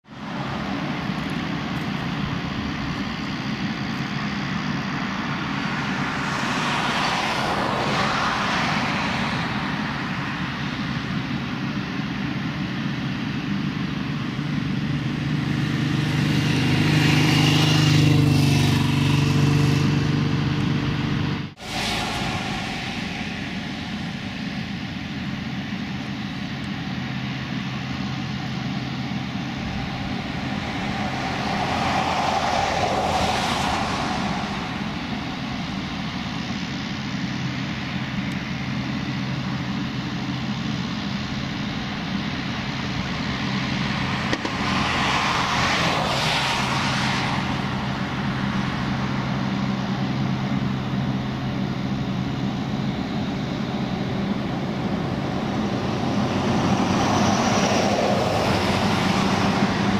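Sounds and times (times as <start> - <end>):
turboprop engines droning: 0.0 - 59.9.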